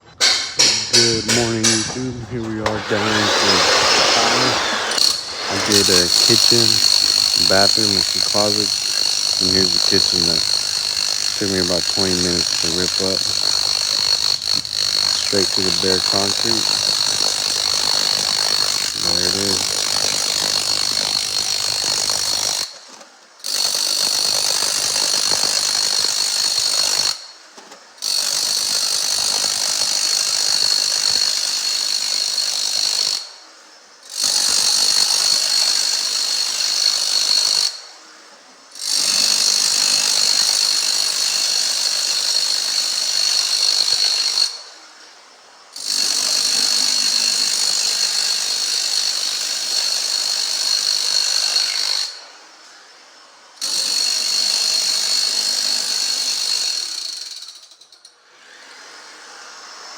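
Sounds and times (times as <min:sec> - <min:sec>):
power tool stripping flooring: 0:00.0 - 0:33.4, 0:34.1 - 0:38.0, 0:38.8 - 0:59.9.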